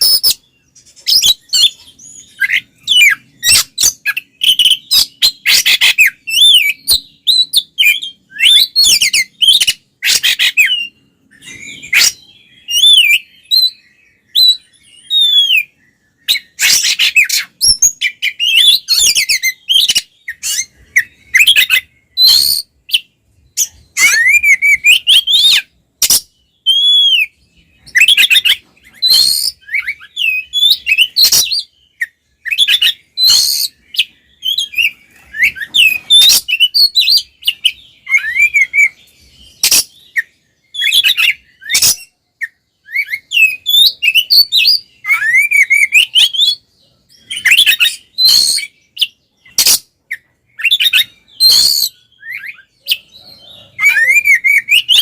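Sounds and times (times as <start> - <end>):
songbird whistling and chattering: 0.0 - 55.0.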